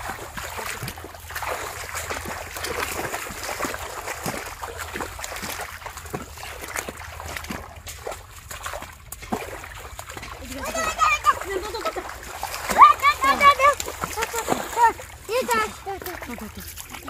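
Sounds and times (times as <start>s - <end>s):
muddy water sloshing and splashing: 0.0s - 17.0s.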